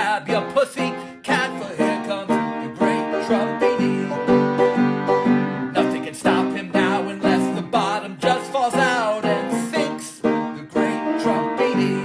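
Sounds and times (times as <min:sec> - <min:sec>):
man singing: 0:00.0 - 0:12.0
piano chords: 0:00.0 - 0:12.0.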